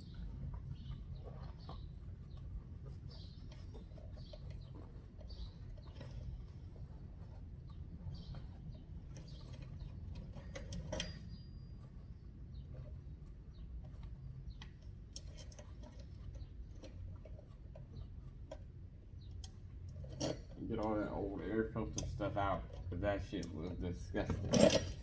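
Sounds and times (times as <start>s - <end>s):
rag wiping with clicks and scuffs: 0.1s - 24.4s.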